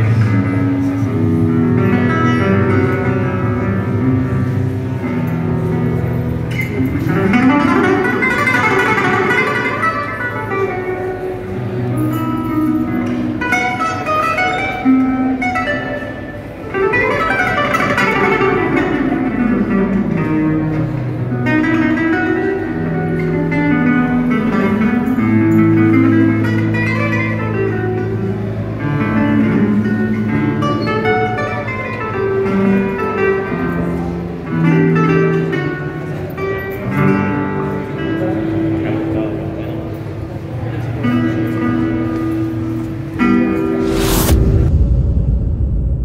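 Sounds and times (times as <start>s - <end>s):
amplified acoustic guitar: 0.0s - 43.8s.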